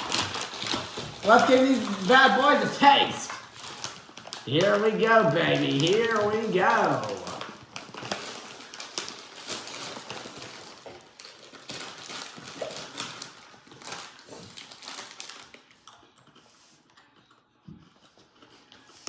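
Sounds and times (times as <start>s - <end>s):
crackers being chewed: 0.0s - 19.0s.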